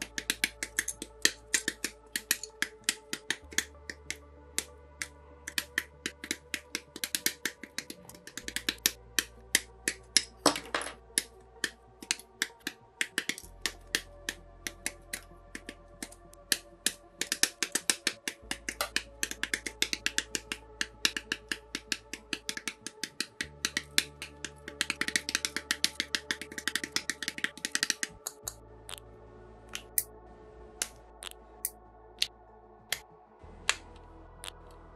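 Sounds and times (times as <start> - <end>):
nippers snipping plastic: 0.0 - 28.6
low background music: 0.0 - 34.9.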